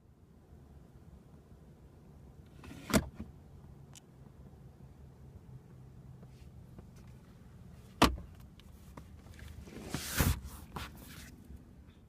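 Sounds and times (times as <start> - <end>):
low car cabin hum: 0.0 - 12.0.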